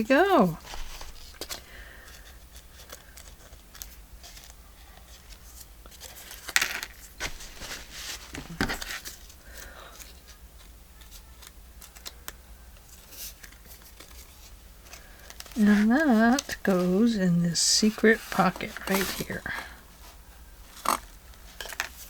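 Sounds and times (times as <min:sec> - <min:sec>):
paper rustling: 0:00.6 - 0:17.1, 0:17.8 - 0:22.0.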